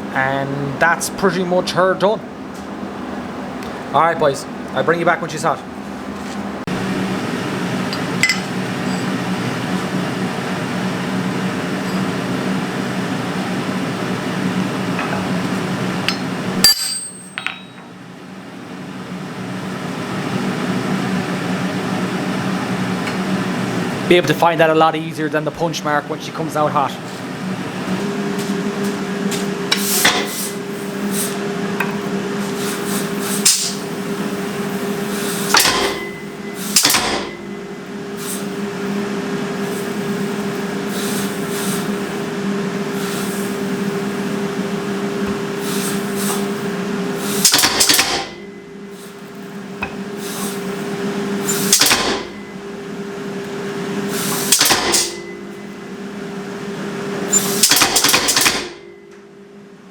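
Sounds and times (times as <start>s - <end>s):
forge blower humming: 0.0s - 59.9s.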